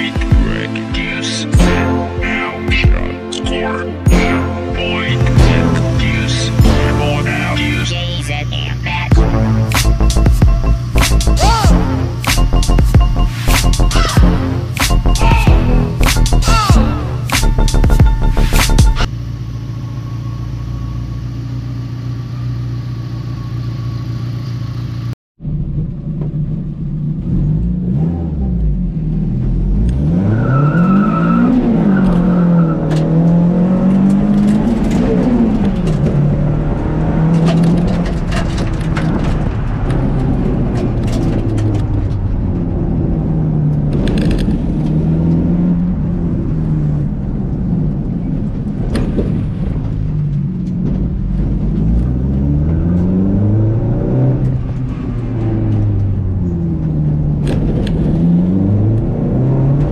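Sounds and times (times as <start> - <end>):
car engine revving in cabin: 5.0 - 19.1, 25.5 - 59.9.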